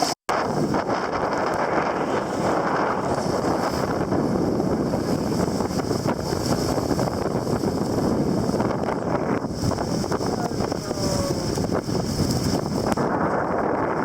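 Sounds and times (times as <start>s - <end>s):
water rushing past hull: 0.0s - 14.0s
wind blowing across microphone: 0.0s - 14.0s.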